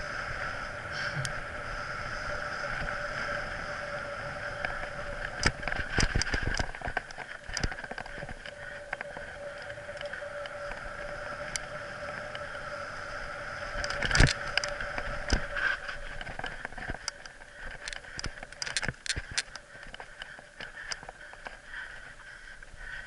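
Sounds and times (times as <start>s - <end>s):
wind rushing past camera: 0.0s - 22.1s.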